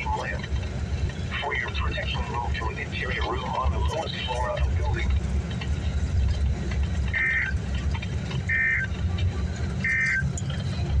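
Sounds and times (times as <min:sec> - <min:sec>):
low rumble of moving bus: 0:00.0 - 0:11.0.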